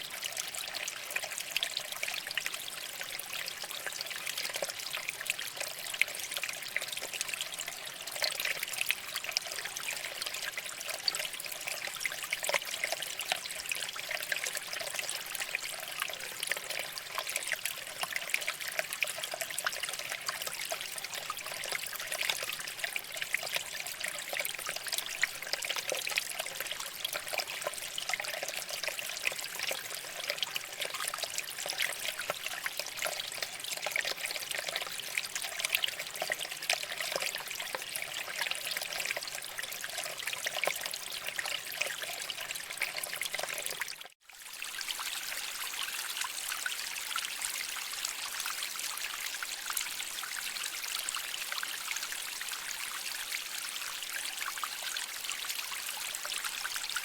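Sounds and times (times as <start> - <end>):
water babbling over rocks: 0.0 - 57.0.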